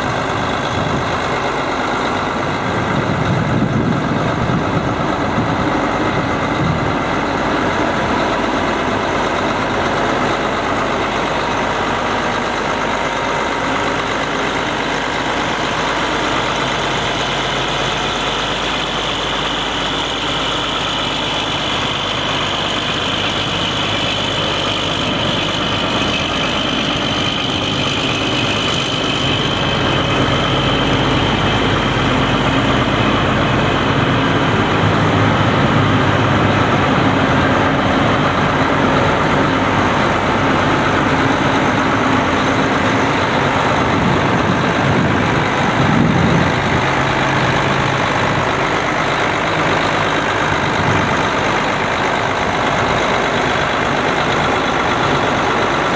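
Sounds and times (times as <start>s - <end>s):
high whine: 0.0s - 55.9s
tractor diesel engine idling: 0.0s - 55.9s.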